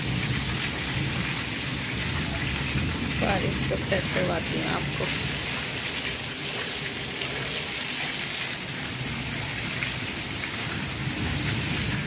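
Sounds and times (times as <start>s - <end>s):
rain falling on leaves and concrete: 0.0s - 12.0s.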